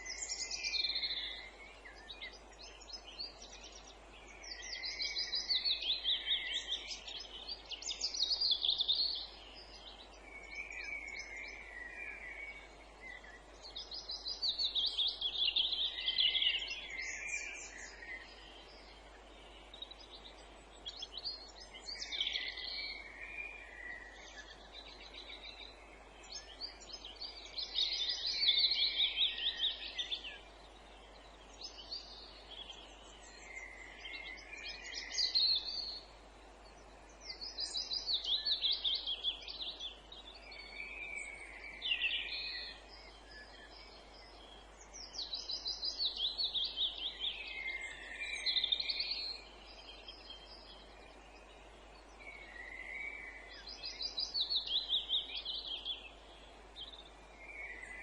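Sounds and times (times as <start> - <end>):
faint steady hiss: 0.0 - 58.0.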